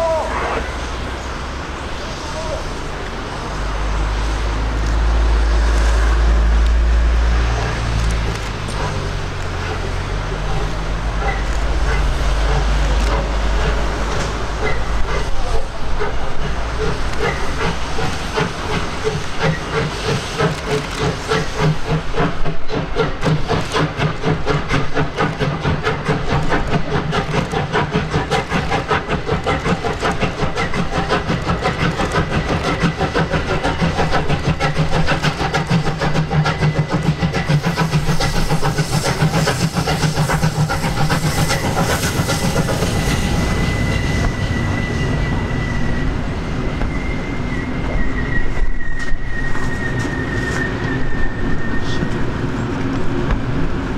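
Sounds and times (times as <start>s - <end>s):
steam locomotive exhaust chuffs: 0.0s - 53.9s.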